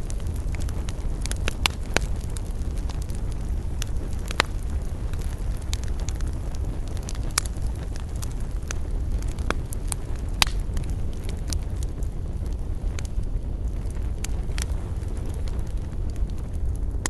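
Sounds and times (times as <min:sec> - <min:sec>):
campfire crackling: 0:00.0 - 0:17.0
low steady rumble: 0:00.0 - 0:17.0
sharp fire pops: 0:00.0 - 0:17.0.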